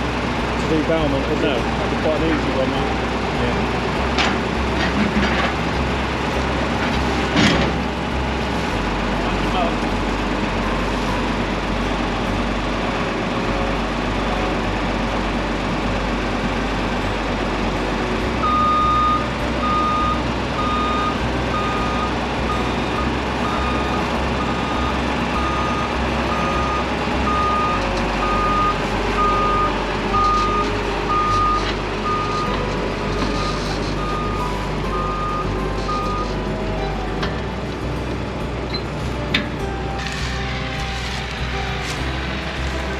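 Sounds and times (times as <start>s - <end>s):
farm machinery running: 0.0s - 42.9s.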